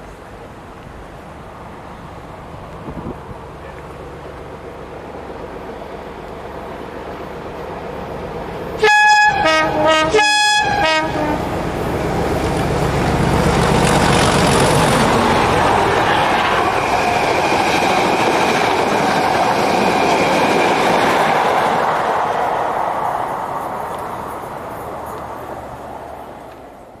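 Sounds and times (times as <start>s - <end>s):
diesel locomotive engine: 0.0s - 27.0s
train coaches clattering on rails: 0.0s - 27.0s.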